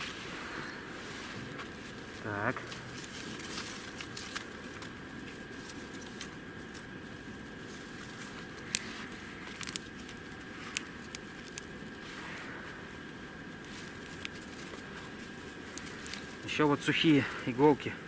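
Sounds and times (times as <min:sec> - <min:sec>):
dry twigs snapping: 0:00.0 - 0:17.6.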